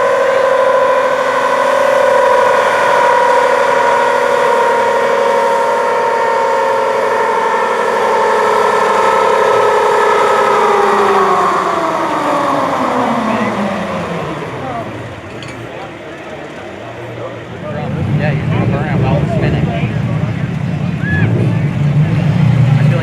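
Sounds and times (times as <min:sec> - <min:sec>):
motor drone winding down: 0:00.0 - 0:23.0.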